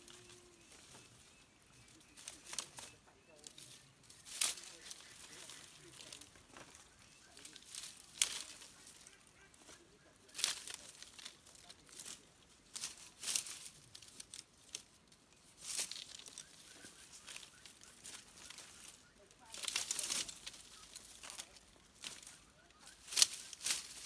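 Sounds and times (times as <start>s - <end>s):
rustling and crinkling: 0.0s - 24.0s.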